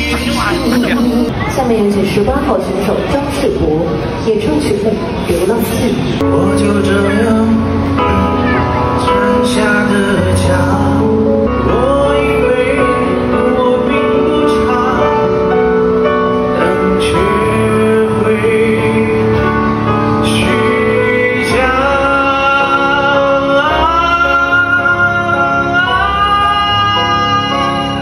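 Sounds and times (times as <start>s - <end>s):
man singing into a microphone: 0.0s - 1.4s, 6.2s - 28.0s.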